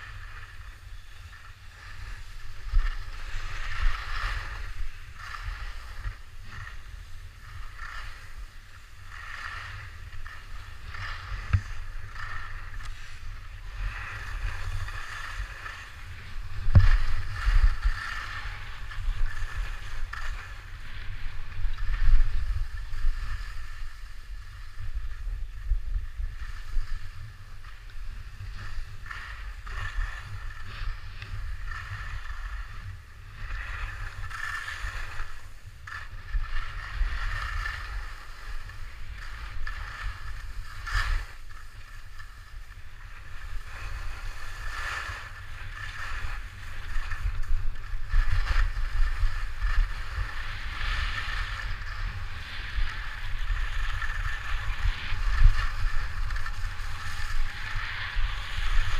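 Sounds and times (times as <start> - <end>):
skis carving over snow: 0.0 - 58.9
wind buffeting microphone: 0.0 - 58.9.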